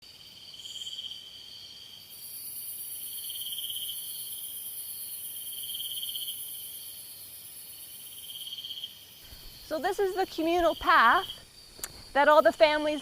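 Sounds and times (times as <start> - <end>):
insects trilling: 0.1 - 13.0
shrill high insect buzz: 0.1 - 13.0.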